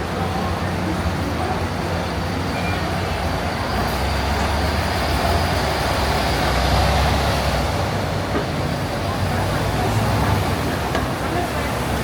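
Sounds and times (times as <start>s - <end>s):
heavy vehicle engine rumble: 0.0s - 12.0s
roadside traffic noise: 0.0s - 12.0s.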